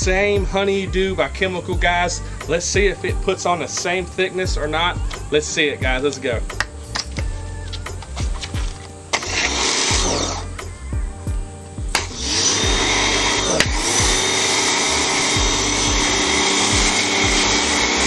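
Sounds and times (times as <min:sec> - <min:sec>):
background music with beat: 0:00.0 - 0:18.0.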